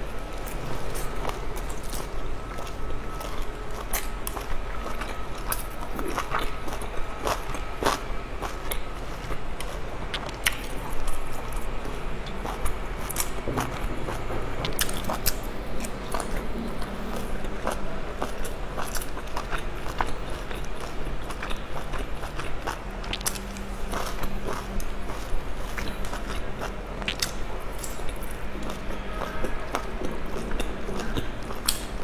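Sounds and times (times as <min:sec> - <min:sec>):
person chewing food: 0:00.4 - 0:32.0.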